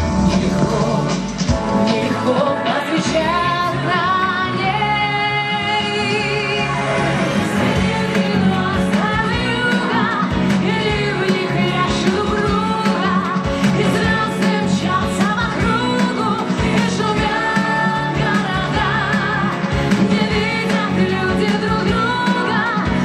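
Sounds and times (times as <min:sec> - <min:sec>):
loud instrumental backing: 0:00.0 - 0:23.0
woman singing with vibrato: 0:00.2 - 0:07.0, 0:07.6 - 0:23.0.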